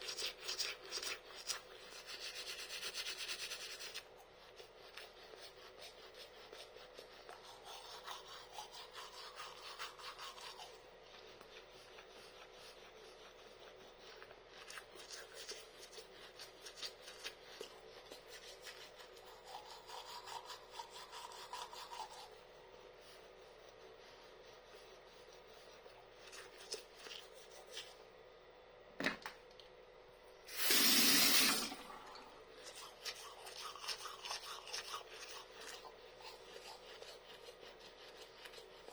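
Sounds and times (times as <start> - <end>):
toothbrush scrubbing teeth: 0.0 - 28.1, 30.5 - 38.9.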